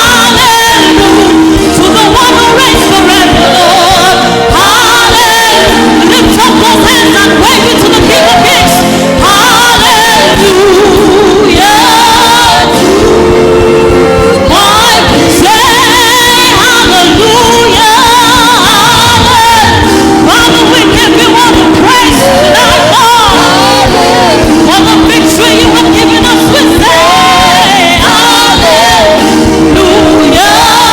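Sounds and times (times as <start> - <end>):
gospel choir singing with band: 0.0 - 30.9.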